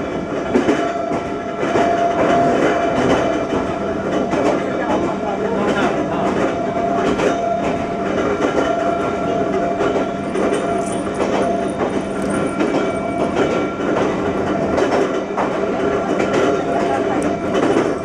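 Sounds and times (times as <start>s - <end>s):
wheels clacking over rail joints: 0.0s - 18.0s
wheels rumbling on rail: 0.0s - 18.0s.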